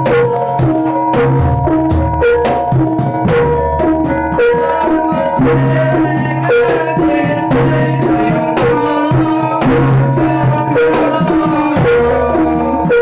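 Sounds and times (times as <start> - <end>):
gong and metallophone tones: 0.0 - 13.0
hand drums beating: 0.0 - 13.0.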